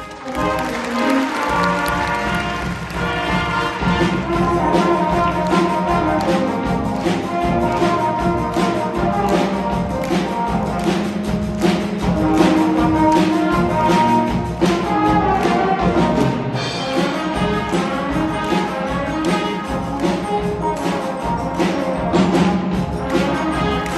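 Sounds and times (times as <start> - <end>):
brass instruments holding notes: 0.0 - 23.9
drums and timpani beat: 0.0 - 23.9.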